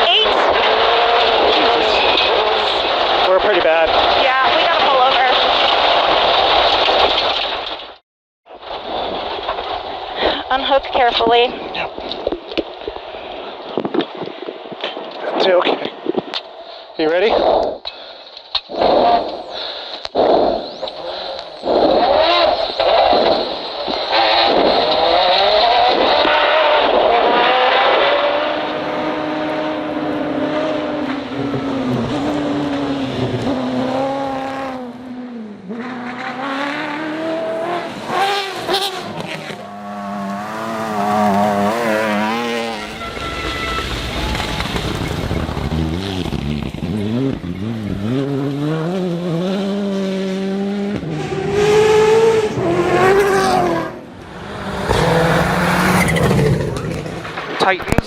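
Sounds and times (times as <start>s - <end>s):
rally car engines revving: 0.0s - 7.5s, 18.7s - 58.0s.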